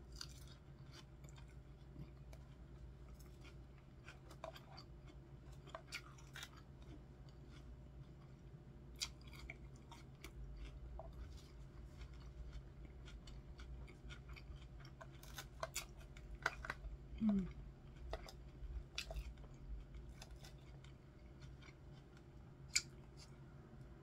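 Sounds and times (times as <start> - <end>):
crisp chewing crunches: 0.0 - 23.4.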